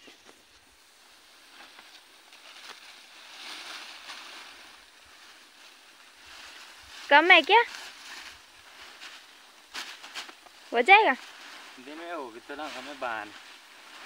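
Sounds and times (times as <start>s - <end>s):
branches rustling and crackling: 0.0s - 14.0s.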